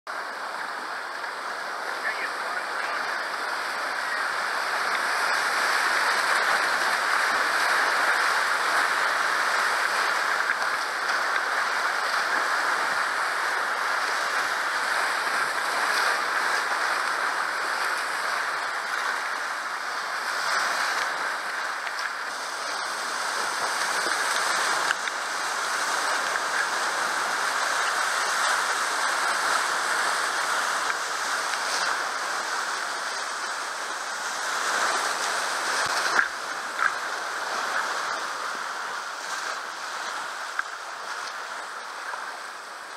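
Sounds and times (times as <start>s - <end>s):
whitewater rapids rushing: 0.1s - 42.9s.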